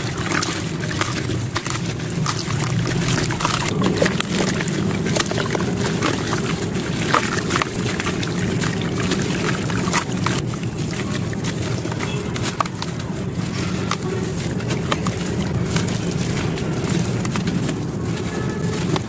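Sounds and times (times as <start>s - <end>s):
cement chunks crunching: 0.0s - 19.0s.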